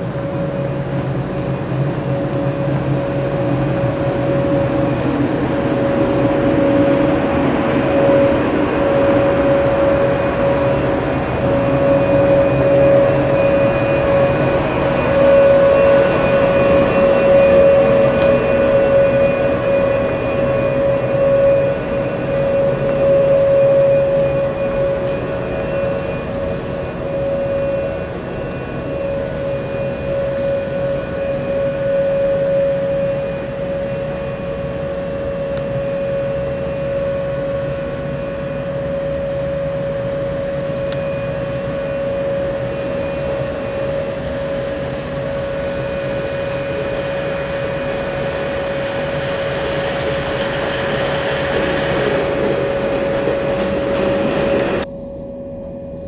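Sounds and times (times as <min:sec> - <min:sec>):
electric train passing slowly: 0:00.0 - 0:56.0
train hum: 0:00.0 - 0:56.0.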